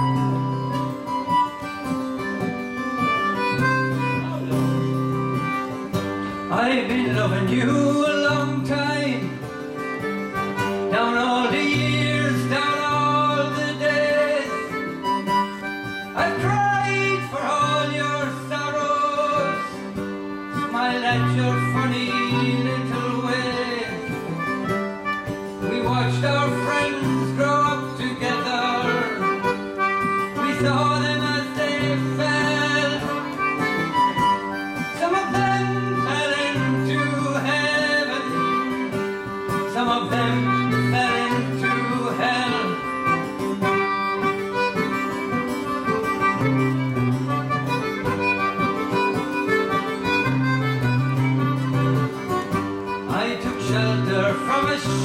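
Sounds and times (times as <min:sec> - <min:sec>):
concertina playing chords: 0:00.0 - 0:07.4, 0:08.2 - 0:54.8
acoustic guitar strummed and picked: 0:00.0 - 0:55.0
man singing: 0:03.0 - 0:24.8, 0:25.4 - 0:47.8, 0:53.0 - 0:55.0.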